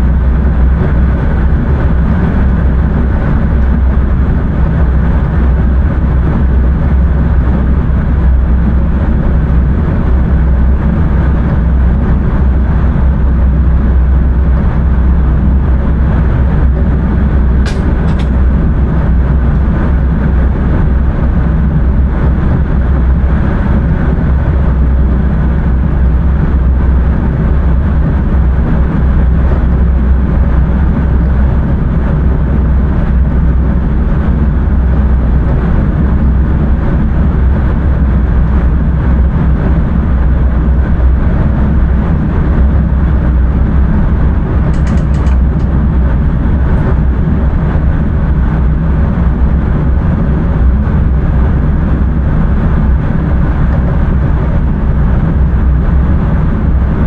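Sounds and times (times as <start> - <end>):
low rumble of train wheels: 0.0 - 57.0.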